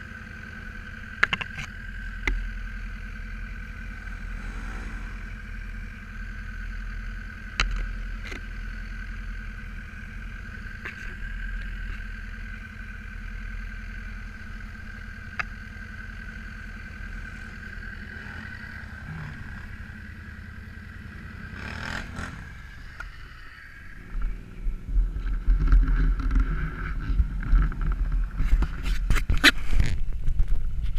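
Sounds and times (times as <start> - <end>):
atv engine: 0.0 - 30.9.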